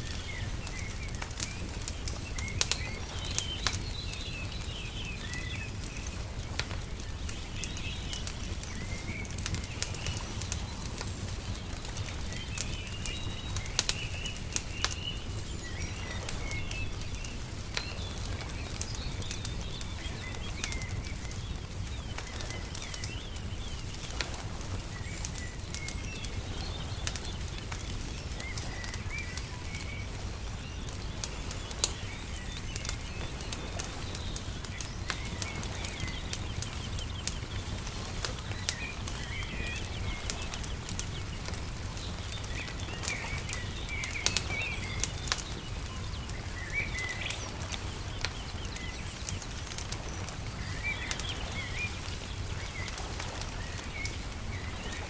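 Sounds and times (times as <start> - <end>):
small birds chirping: 0.0 - 55.0
wood fire crackling and popping: 0.0 - 55.0.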